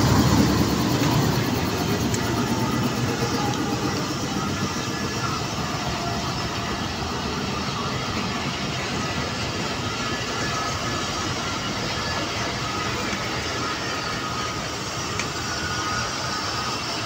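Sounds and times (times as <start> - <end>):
train wheels running on rails: 0.0 - 17.0.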